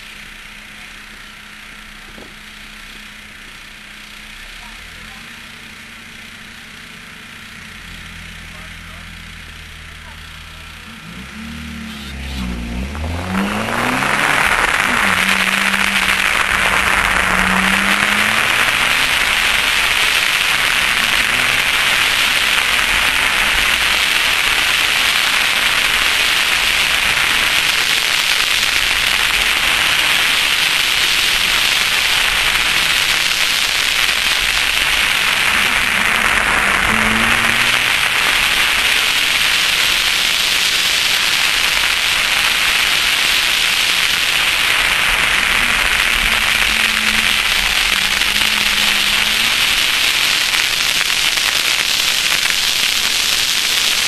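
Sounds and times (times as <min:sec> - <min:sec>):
car engine revving up: 0:00.0 - 0:54.0.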